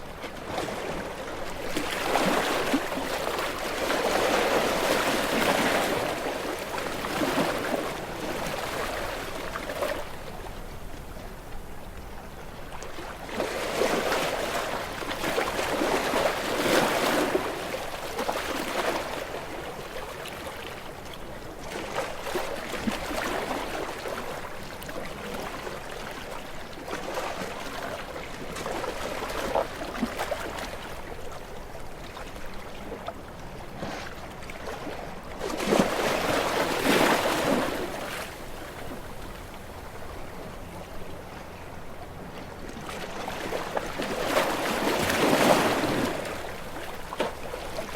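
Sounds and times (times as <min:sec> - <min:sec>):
small waves washing onto shore: 0:00.0 - 0:47.9.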